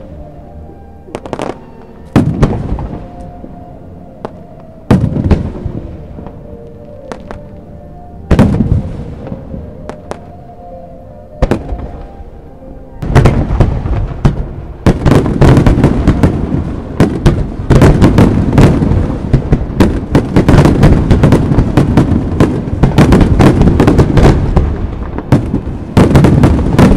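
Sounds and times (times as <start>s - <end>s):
fireworks bangs and crackles: 1.1s - 3.6s, 4.2s - 7.6s, 8.2s - 10.4s, 11.4s - 12.2s, 13.0s - 26.9s.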